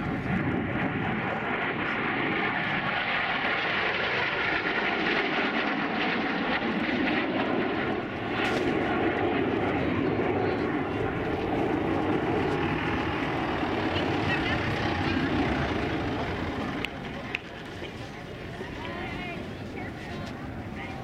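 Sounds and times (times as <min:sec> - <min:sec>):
aircraft engine roar: 0:00.0 - 0:21.0.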